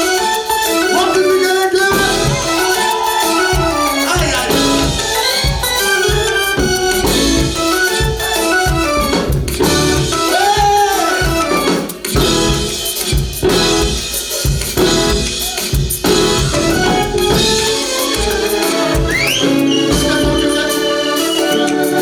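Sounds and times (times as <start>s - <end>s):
church praise music: 0.0s - 22.0s
drum strokes: 1.8s - 20.9s.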